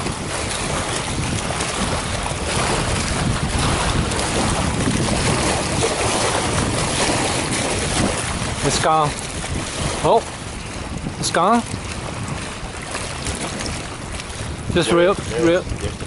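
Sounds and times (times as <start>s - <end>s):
small waves lapping on rocks: 0.0s - 16.0s
wind buffeting microphone: 0.0s - 16.0s.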